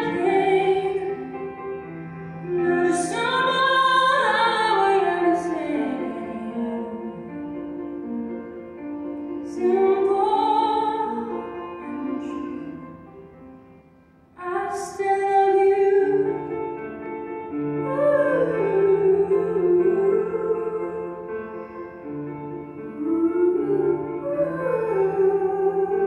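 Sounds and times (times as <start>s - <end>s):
woman singing: 0.0s - 1.6s, 2.5s - 8.2s, 9.4s - 13.2s, 14.4s - 16.8s, 17.5s - 21.5s, 22.5s - 26.0s
grand piano: 0.0s - 26.0s.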